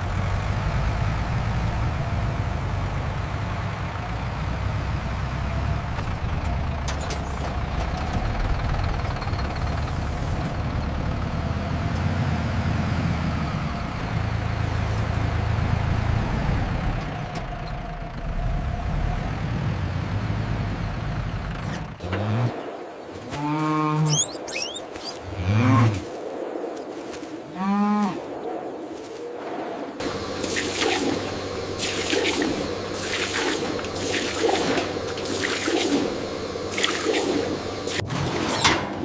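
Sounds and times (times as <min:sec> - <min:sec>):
vehicle engine rumbling: 0:00.0 - 0:27.0, 0:29.9 - 0:39.0.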